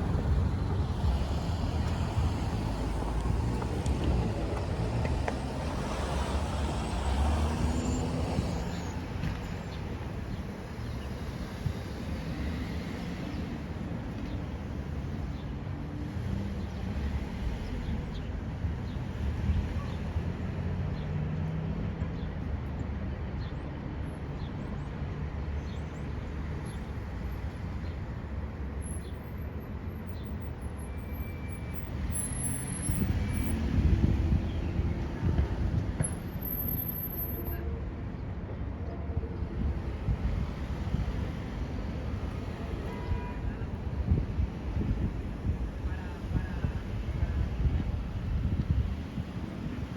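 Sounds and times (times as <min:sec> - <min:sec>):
traffic rumble: 0:00.0 - 0:49.9.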